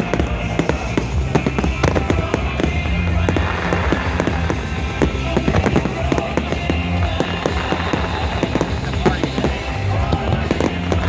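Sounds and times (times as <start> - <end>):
fireworks bangs and crackles: 0.0 - 11.0
music: 0.0 - 11.0.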